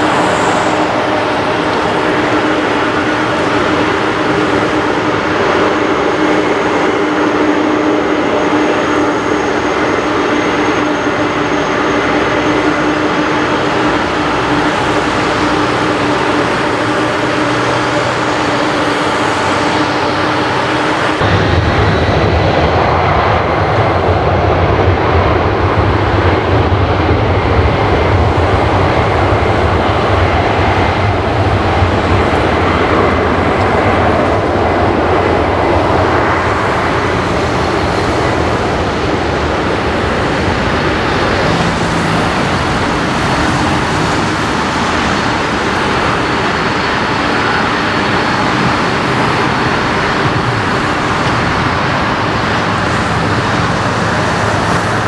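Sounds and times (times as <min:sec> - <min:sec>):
high engine whine: 0:00.0 - 0:55.0
jet engines rumbling: 0:00.0 - 0:55.0.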